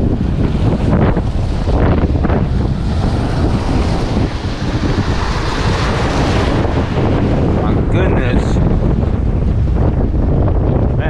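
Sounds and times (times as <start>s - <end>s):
waves breaking over rocks: 0.0s - 10.9s
wind buffeting microphone: 0.0s - 11.0s.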